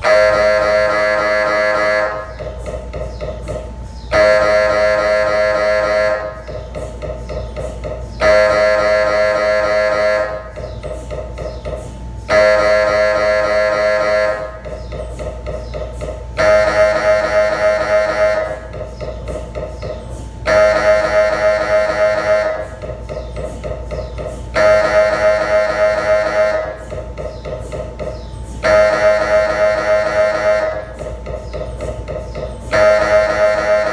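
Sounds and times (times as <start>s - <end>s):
mri scanner loud buzzing tone: 0.0s - 33.9s
softer pulsing buzz: 0.0s - 33.9s.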